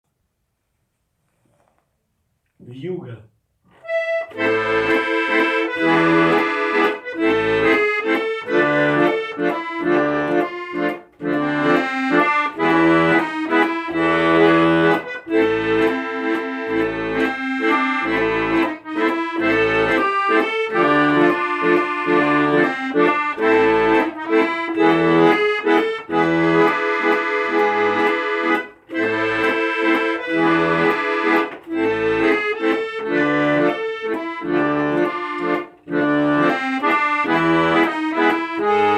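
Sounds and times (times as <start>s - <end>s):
accordion playing: 3.8s - 38.9s.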